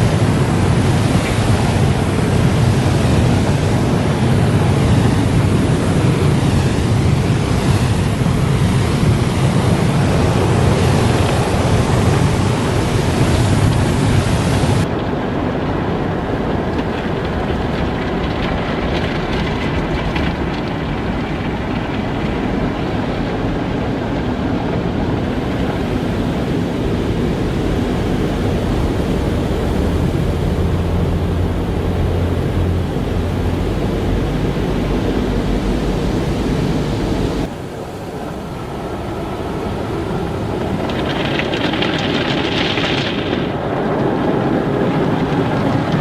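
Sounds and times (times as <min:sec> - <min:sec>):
car wash machinery rumbling: 0:00.0 - 0:46.0.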